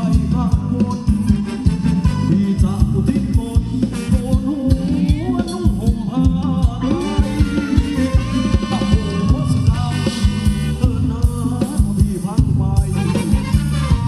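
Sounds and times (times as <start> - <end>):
live band dance music: 0.0 - 14.0
person singing: 0.0 - 14.0.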